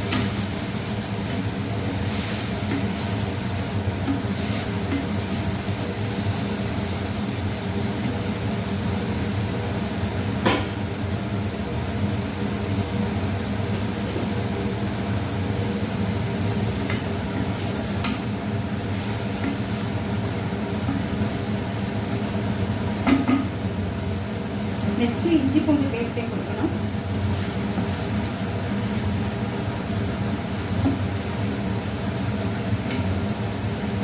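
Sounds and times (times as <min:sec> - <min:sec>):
onions sizzling in hot oil: 0:00.0 - 0:34.0.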